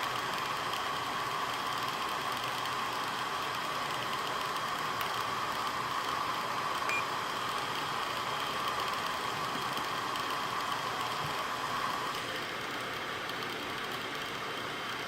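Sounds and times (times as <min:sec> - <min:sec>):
laptop cooling fans whirring: 0:00.0 - 0:15.0.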